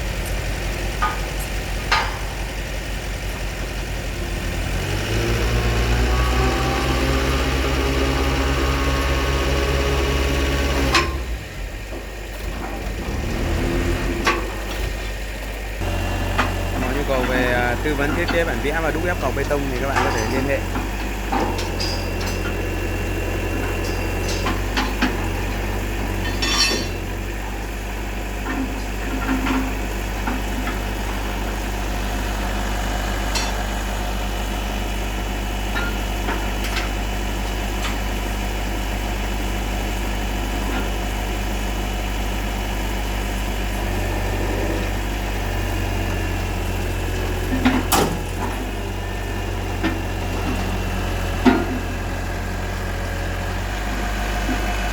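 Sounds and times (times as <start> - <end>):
pile-pressing rig engine running: 0.0 - 54.9.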